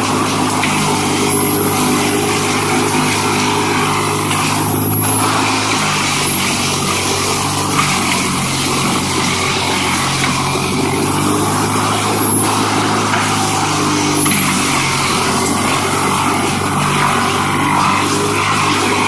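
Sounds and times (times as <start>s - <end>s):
heavy machine engine running: 0.0s - 19.0s
thin high whine: 0.0s - 19.0s.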